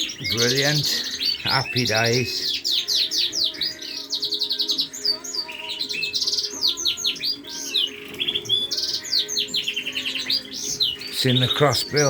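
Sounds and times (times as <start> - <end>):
finches and canaries chirping: 0.0 - 12.0.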